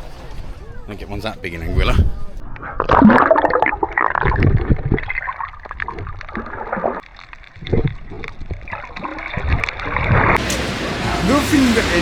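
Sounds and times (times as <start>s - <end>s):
sea water sloshing and gurgling: 0.0s - 10.4s.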